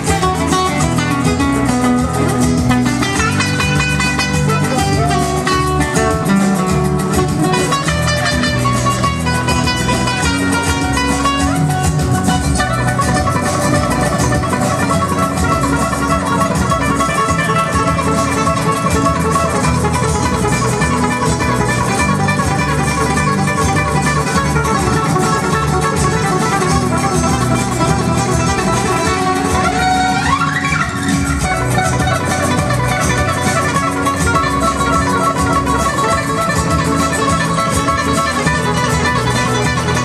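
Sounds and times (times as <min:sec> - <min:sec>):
acoustic guitars playing: 0:00.0 - 0:40.0.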